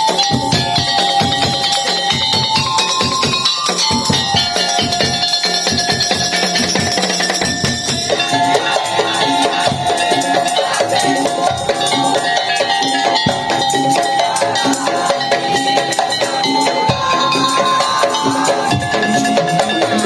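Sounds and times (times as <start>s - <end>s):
melodic line: 0.0s - 20.0s
percussion ensemble playing: 0.0s - 20.0s.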